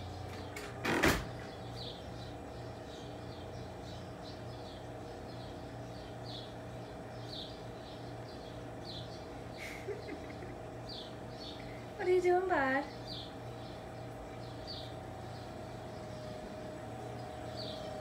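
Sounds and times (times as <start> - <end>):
steady low hum: 0.0 - 18.0
small bird chirping: 1.4 - 18.0.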